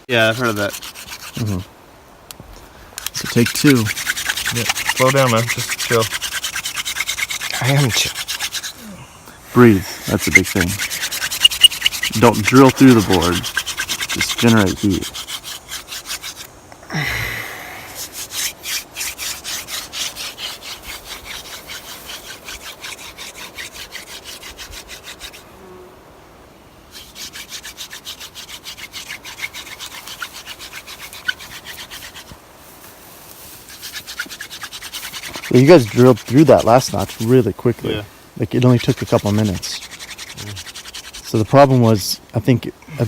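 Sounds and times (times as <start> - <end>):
wooden hand drill rubbing: 0.0 - 1.7, 3.0 - 8.8, 9.5 - 16.5, 18.0 - 25.4, 26.9 - 32.4, 33.3 - 37.9, 38.5 - 42.1.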